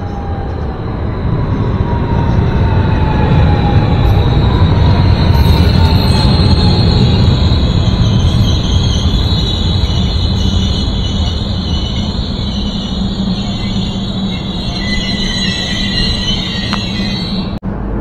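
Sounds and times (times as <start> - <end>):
high even whine: 0.0 - 18.0
train wheels rumbling on rail: 0.0 - 18.0.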